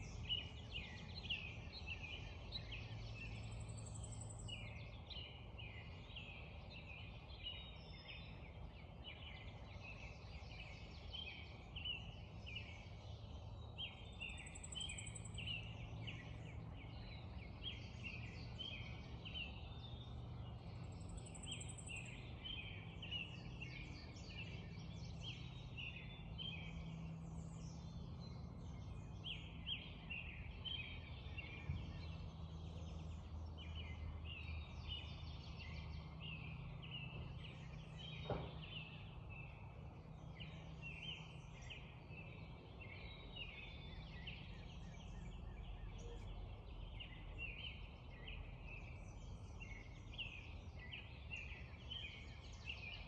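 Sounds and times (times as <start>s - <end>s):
birds singing: 0.0s - 53.0s.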